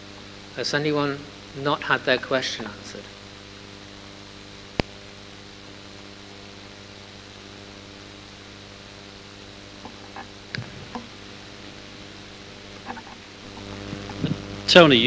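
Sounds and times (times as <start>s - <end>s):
low electrical hum: 0.0s - 15.0s
steady hiss: 0.0s - 15.0s.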